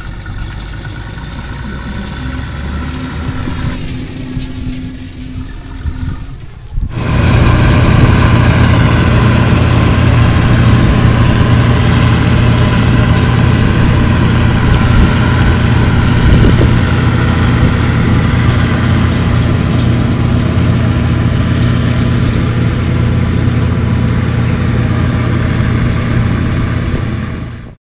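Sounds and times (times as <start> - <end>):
diesel engine running loudly: 0.0 - 27.8
low steady hum: 0.0 - 27.8.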